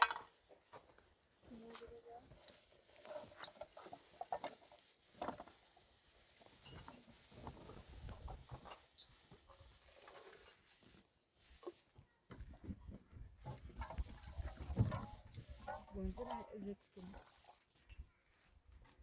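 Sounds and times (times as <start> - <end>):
clicks and rustles of handling: 0.0 - 16.6.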